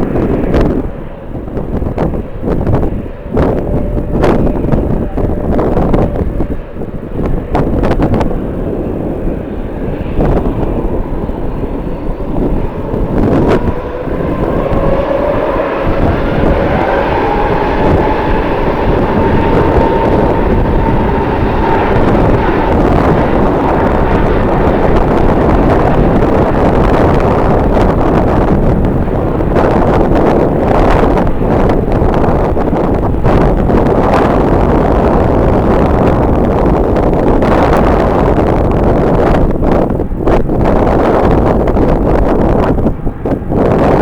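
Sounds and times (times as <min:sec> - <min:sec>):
jet engines passing: 0:00.0 - 0:44.0
wind buffeting microphone: 0:00.0 - 0:44.0.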